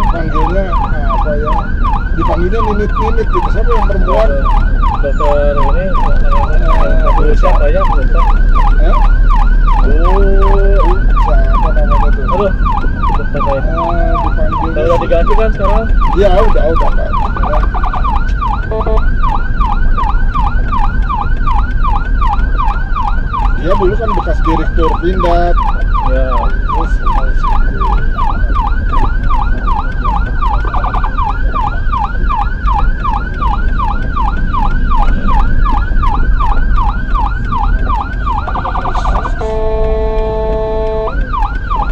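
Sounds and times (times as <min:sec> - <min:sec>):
lower siren tone bursts: 0:00.0 - 0:41.9
siren yelp: 0:00.0 - 0:41.9.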